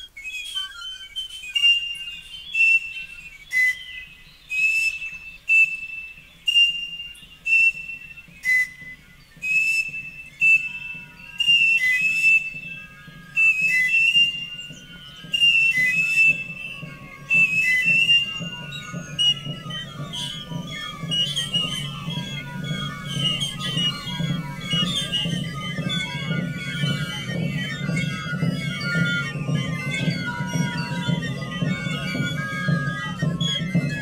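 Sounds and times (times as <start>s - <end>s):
panpipe shrill whistling blasts: 0.0s - 34.0s.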